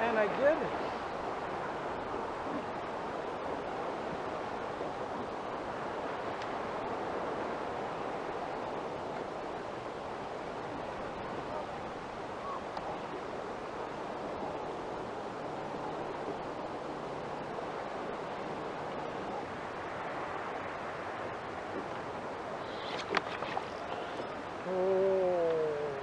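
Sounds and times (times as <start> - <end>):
sea waves rushing: 0.0 - 26.0.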